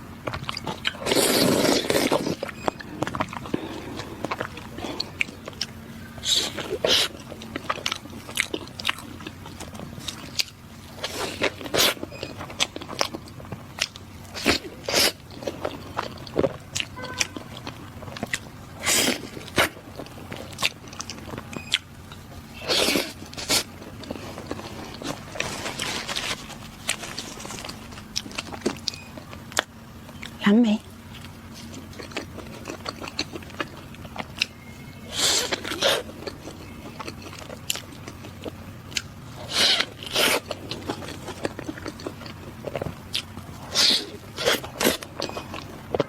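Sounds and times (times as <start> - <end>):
crunchy chewing with sharp clicks: 0.2 - 46.0.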